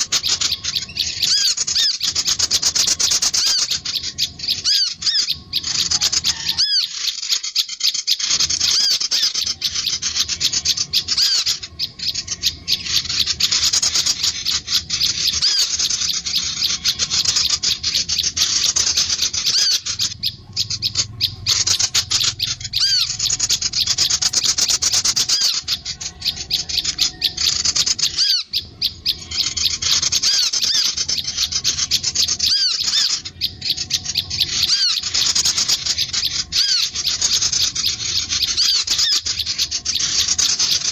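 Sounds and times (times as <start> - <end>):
songbirds chattering and chirping: 0.0 - 40.9.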